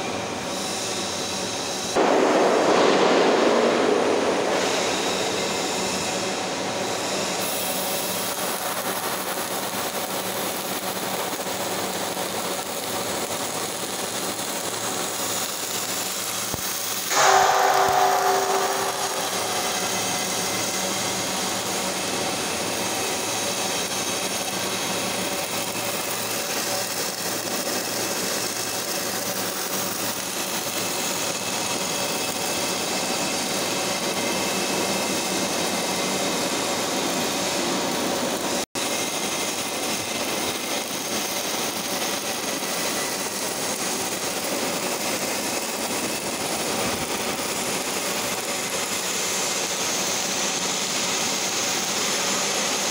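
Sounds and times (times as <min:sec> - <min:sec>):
welding arc hissing and crackling: 0:00.4 - 0:52.9.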